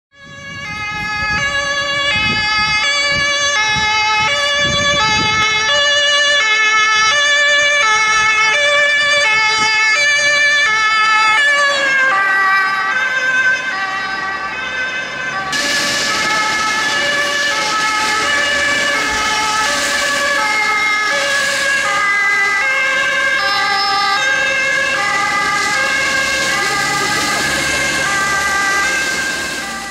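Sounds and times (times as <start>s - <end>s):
two-tone emergency vehicle horn: 0.1s - 29.9s
rushing traffic noise: 0.2s - 29.9s.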